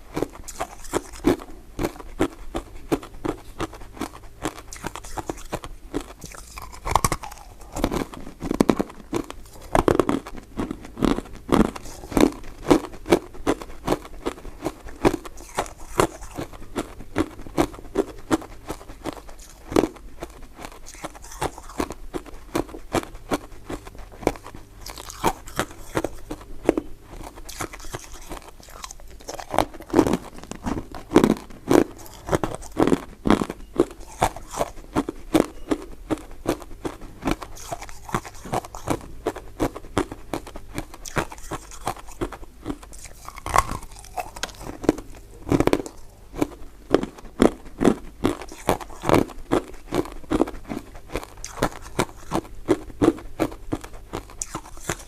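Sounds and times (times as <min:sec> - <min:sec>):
chewing and biting sweets: 0:00.0 - 0:55.0.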